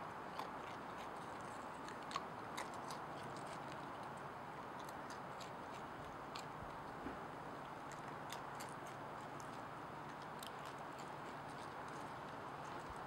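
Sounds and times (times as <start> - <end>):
animal crunching chips: 0.2 - 13.0.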